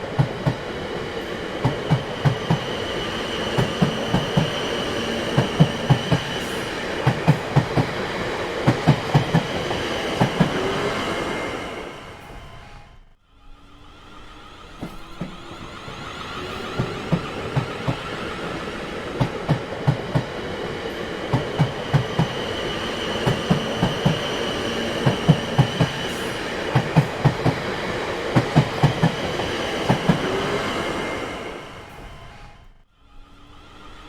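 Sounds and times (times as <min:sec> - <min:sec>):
train wheels clacking on rails: 0:00.0 - 0:12.7, 0:14.6 - 0:32.6
train rumble: 0:00.0 - 0:34.0.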